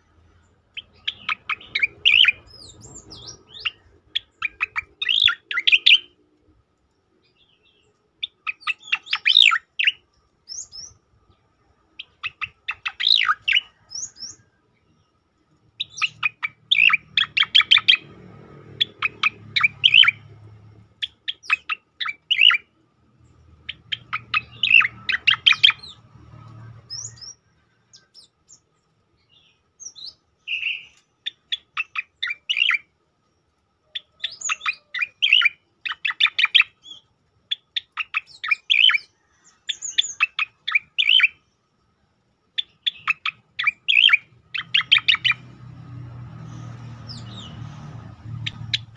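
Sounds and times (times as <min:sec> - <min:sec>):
bird chirping in rapid bursts: 0:00.3 - 0:06.2, 0:07.2 - 0:11.0, 0:11.9 - 0:15.1, 0:15.8 - 0:32.9, 0:33.8 - 0:41.6, 0:42.6 - 0:48.9.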